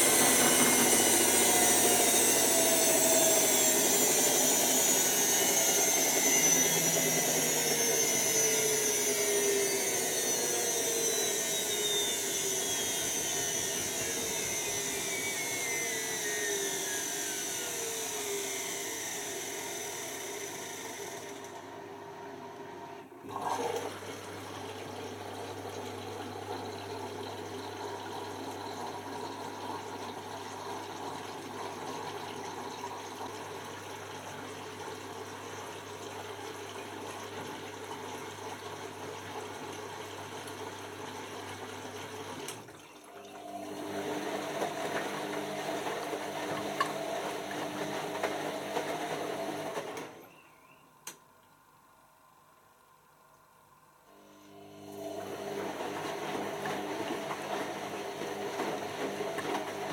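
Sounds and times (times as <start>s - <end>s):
washing machine motor whine: 0.0s - 51.2s, 54.1s - 59.9s.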